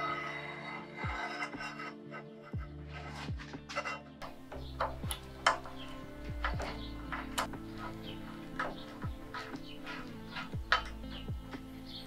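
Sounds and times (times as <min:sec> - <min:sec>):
low backing music: 0:00.0 - 0:12.0.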